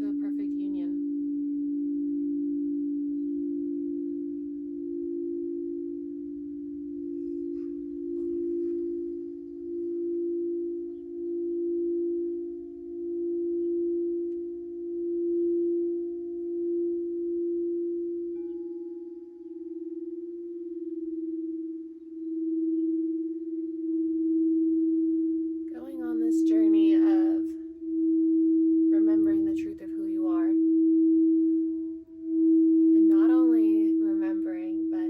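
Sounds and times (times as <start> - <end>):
singing bowl drone: 0.0 - 35.0.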